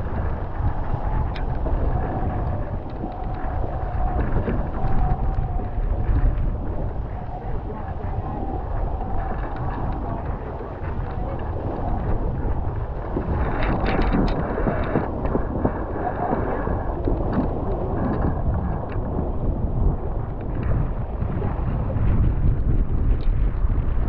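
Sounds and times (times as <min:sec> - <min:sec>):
water rushing along hulls: 0:00.0 - 0:24.0
wind buffeting microphone: 0:00.0 - 0:24.0.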